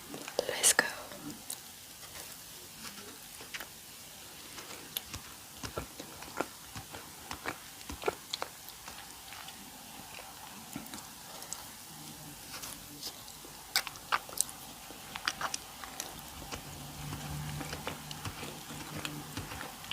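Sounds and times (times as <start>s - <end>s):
wet chewing of doughnut: 1.3s - 19.9s.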